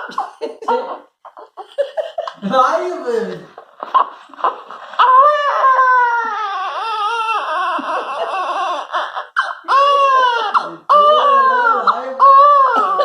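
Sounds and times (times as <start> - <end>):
baby crying: 0.0 - 2.4, 3.6 - 13.0.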